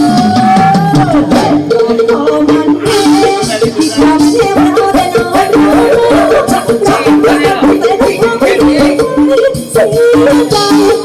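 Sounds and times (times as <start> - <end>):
loud folk-pop music: 0.0 - 11.0.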